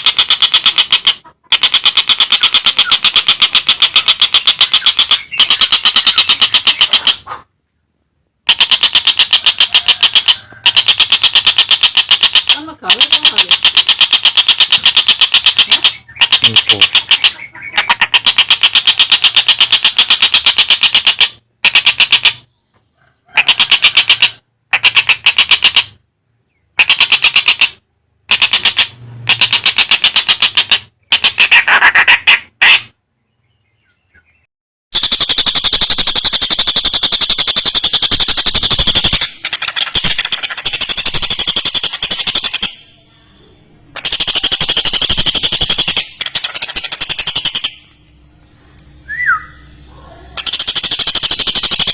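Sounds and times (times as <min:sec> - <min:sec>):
kingfisher rattling cackles: 0:00.0 - 0:07.5, 0:08.4 - 0:22.5, 0:23.3 - 0:26.0, 0:26.8 - 0:32.9, 0:35.0 - 0:43.1, 0:43.9 - 0:48.0, 0:49.3 - 0:51.9.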